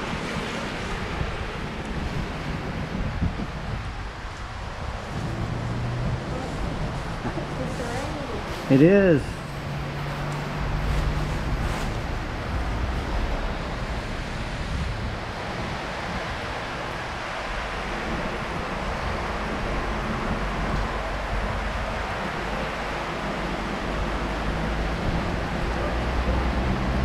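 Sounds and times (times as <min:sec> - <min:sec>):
steady outdoor hiss: 0:00.0 - 0:27.0
wind buffeting microphone: 0:00.0 - 0:27.0.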